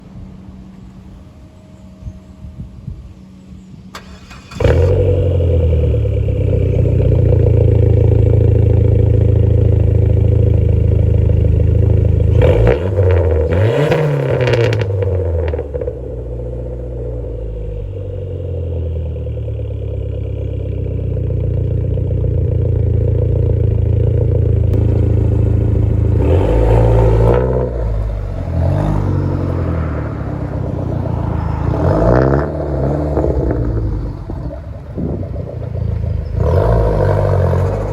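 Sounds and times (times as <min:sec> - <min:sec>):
car engine revving: 0:03.9 - 0:37.9.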